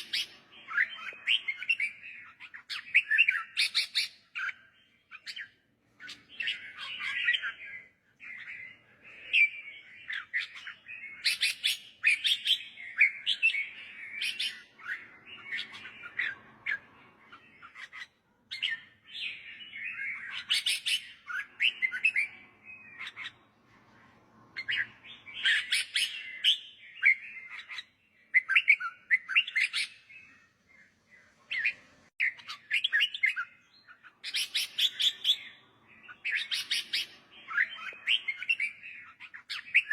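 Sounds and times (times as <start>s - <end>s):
bird singing chirped phrases: 0.0s - 39.9s.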